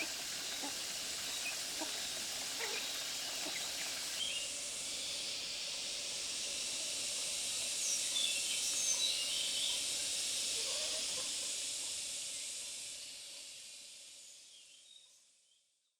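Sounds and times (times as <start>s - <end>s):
high-pitched forest hiss: 0.0s - 15.5s.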